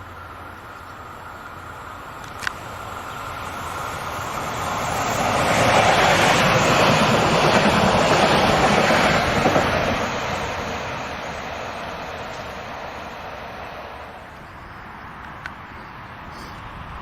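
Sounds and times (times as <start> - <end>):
train passing by: 0.0 - 17.0.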